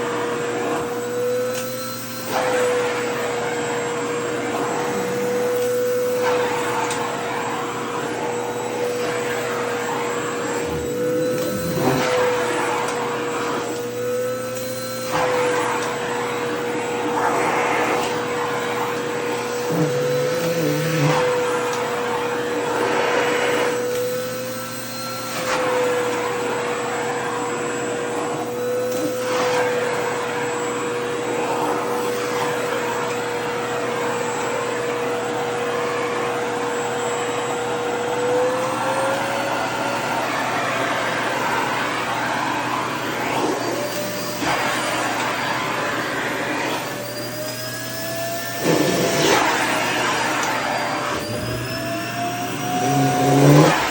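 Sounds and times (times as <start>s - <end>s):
vacuum cleaner motor whine: 0.0s - 53.9s.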